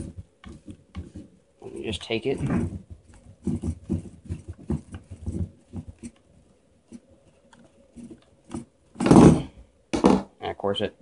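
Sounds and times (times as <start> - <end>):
plastic knocks and scrapes: 0.0 - 10.3.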